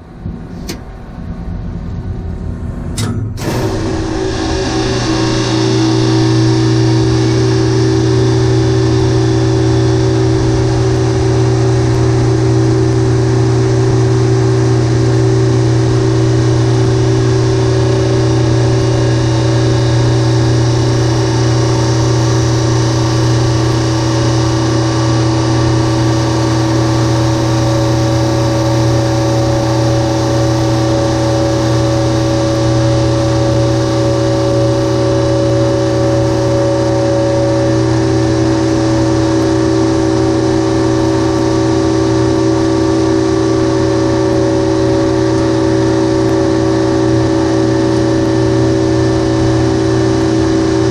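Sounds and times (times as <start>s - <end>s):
refrigeration compressor deep hum: 0.0s - 50.9s
high steady tones: 1.5s - 49.3s.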